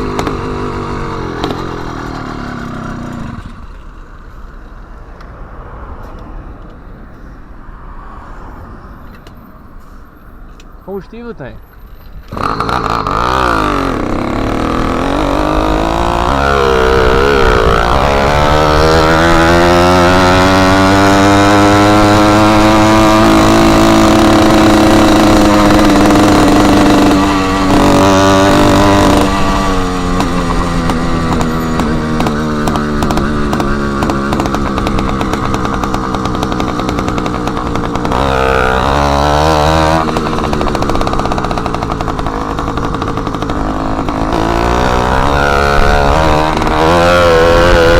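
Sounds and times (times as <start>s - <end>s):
small motorbike engine revving: 0.0s - 3.6s, 12.3s - 47.9s.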